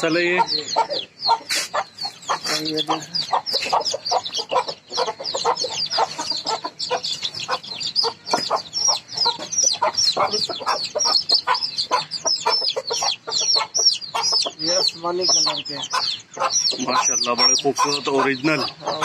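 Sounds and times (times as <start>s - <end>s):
chicken clucking: 0.0s - 19.0s
chicks peeping loudly: 0.0s - 19.0s.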